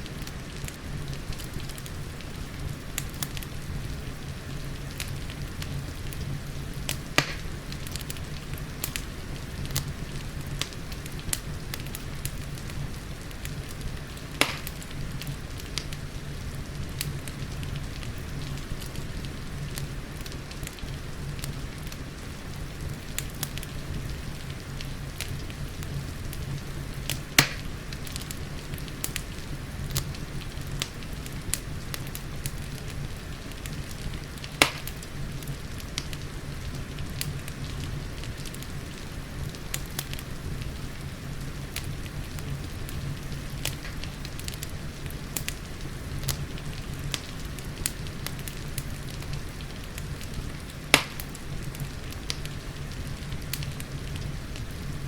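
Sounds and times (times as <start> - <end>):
fireplace fire crackling: 0.0 - 55.0
rain pattering: 0.0 - 55.0.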